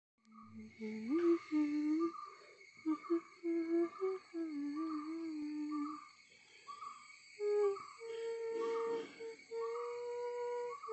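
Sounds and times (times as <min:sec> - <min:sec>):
faint high-pitched tone: 0:00.3 - 0:06.0, 0:07.4 - 0:10.9
person humming a slow melody: 0:00.3 - 0:06.1, 0:07.4 - 0:10.9.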